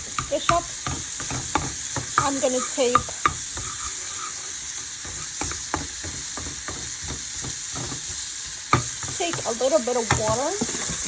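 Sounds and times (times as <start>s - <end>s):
fish frying in a pan: 0.0s - 11.0s
utensil scraping a pan: 0.0s - 11.0s.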